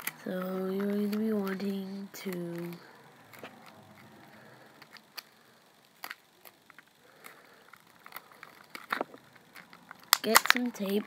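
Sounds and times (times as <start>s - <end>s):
hands handling objects clicking: 0.0s - 4.1s, 6.0s - 11.0s.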